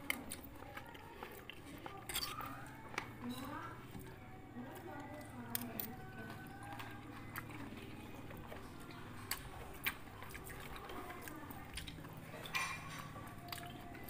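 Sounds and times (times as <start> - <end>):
chewing fresh fruit: 0.0 - 14.0.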